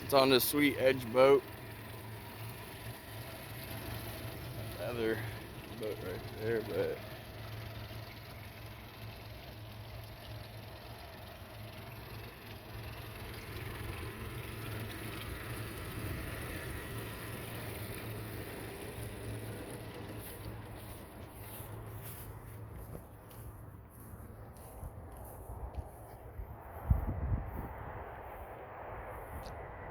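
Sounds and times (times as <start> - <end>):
outboard motor idling: 0.0 - 26.4.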